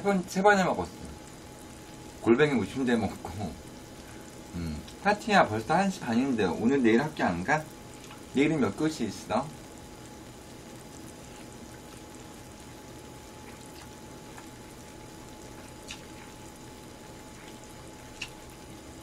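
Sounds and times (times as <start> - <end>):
food bubbling in a pan: 0.1 - 19.0.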